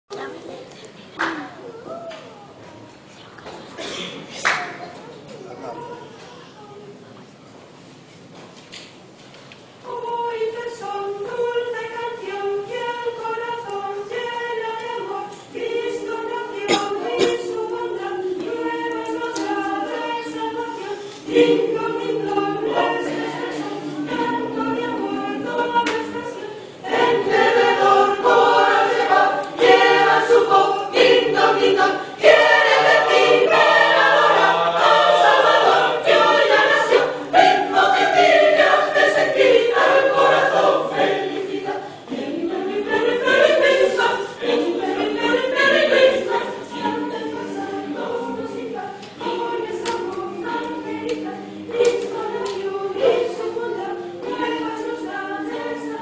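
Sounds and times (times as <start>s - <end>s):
mixed choir singing a carol: 9.8s - 56.0s.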